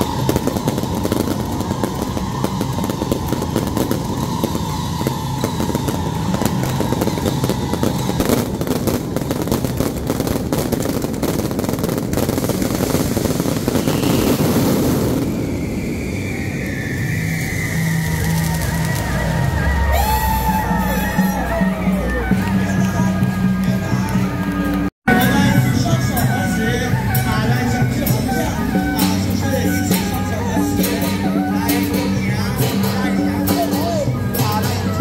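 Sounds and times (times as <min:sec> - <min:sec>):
fireworks crackling: 0:00.0 - 0:35.0
fireworks rushing roar: 0:00.0 - 0:35.0.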